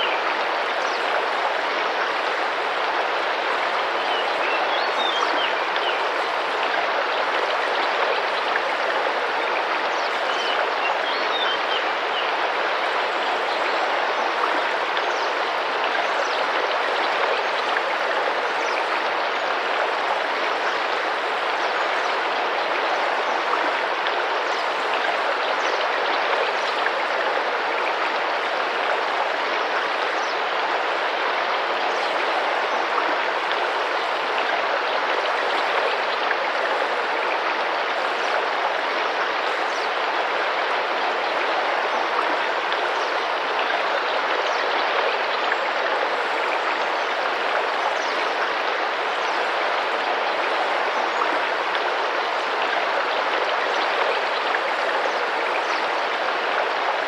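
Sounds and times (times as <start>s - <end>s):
river flowing and splashing: 0.0s - 57.0s.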